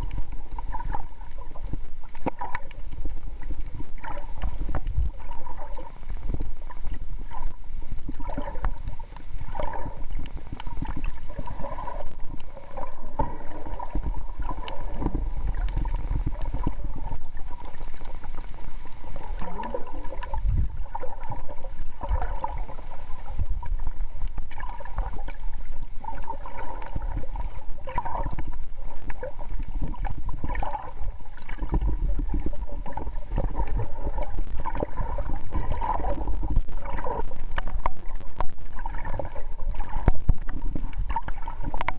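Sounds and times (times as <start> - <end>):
low underwater rumble: 0.0 - 41.9
water gurgling: 0.0 - 41.9.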